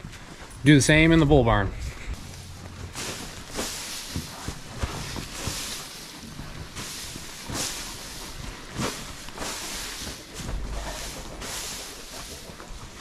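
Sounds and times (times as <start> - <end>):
hay swishing on concrete: 1.8 - 13.0.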